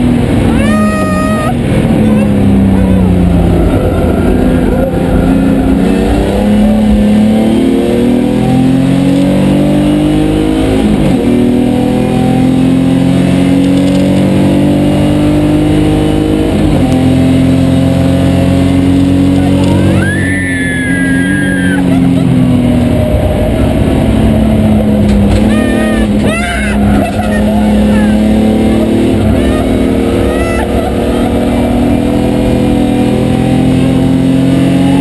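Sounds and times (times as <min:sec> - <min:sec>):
race car engine accelerating: 0:00.0 - 0:35.0.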